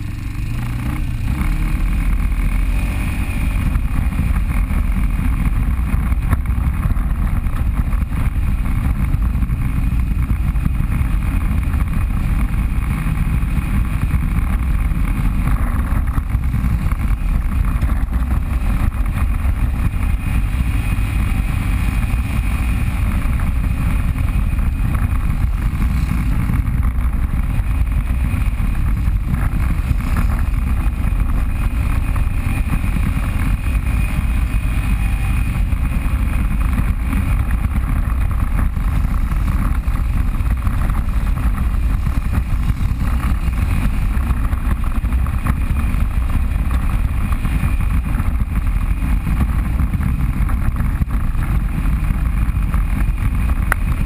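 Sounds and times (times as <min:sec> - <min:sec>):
off-road vehicle engine: 0:00.0 - 0:54.0.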